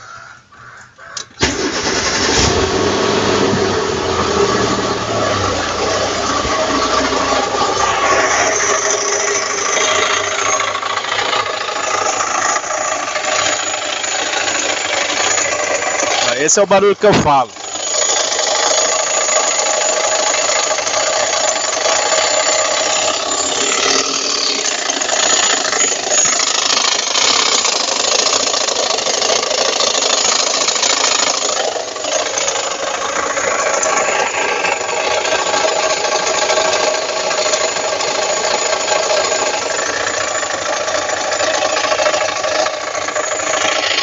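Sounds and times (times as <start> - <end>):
strange engine noise: 0.0 - 44.0
car engine running: 1.4 - 44.0.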